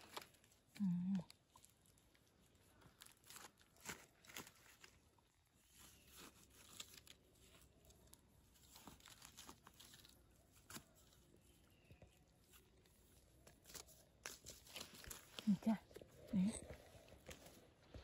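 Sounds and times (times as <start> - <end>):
crackling and scraping in leaves: 0.0 - 18.0.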